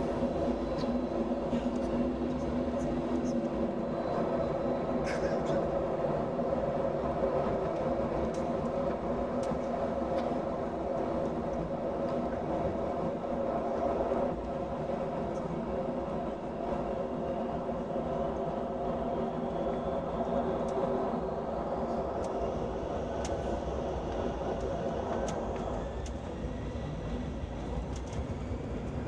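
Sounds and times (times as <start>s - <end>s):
jet engines humming in cabin: 0.0s - 29.0s.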